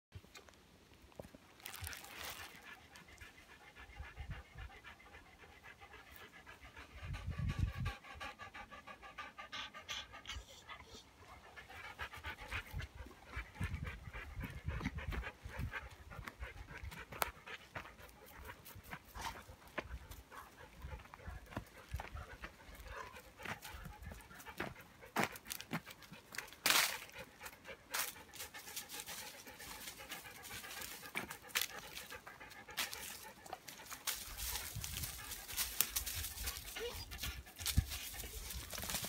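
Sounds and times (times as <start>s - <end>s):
dog panting rapidly: 2.0s - 39.0s.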